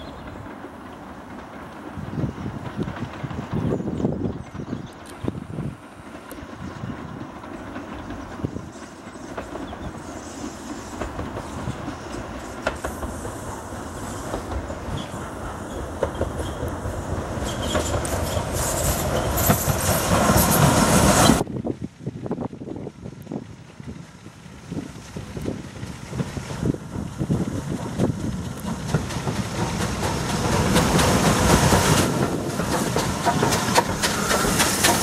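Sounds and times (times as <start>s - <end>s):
steam train running past: 0.0s - 35.0s.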